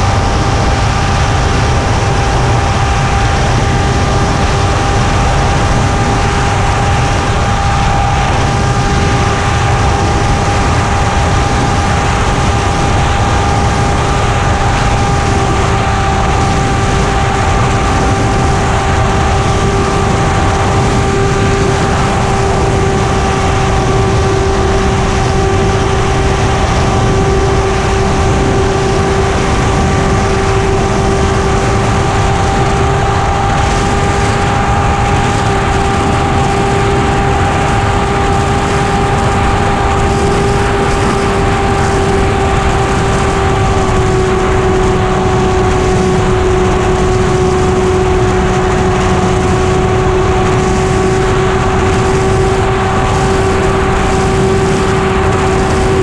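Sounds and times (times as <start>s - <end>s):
model airplane motor drone: 0.0s - 56.0s
wind rushing over microphone: 0.0s - 56.0s.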